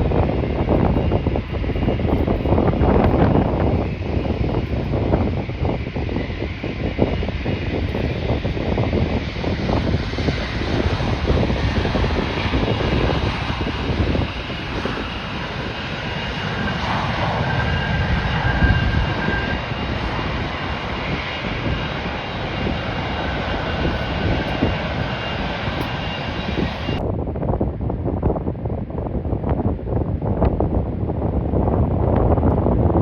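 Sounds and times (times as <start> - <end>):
high engine whine: 0.0 - 27.2
airliner engines rumbling: 0.0 - 33.0
wind buffeting microphone: 0.0 - 33.0.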